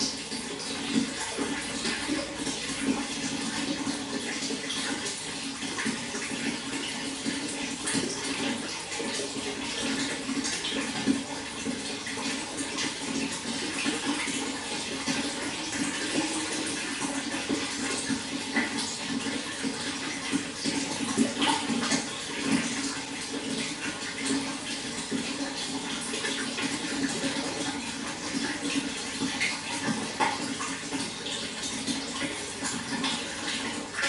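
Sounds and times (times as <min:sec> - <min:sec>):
water splashing and bubbling: 0:00.0 - 0:34.0.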